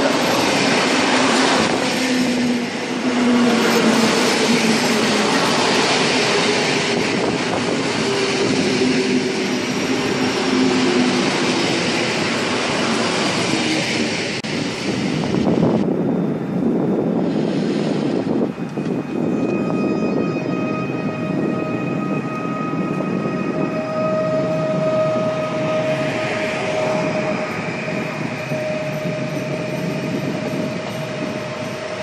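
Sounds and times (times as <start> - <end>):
train wheels rolling on rail: 0.0 - 32.0.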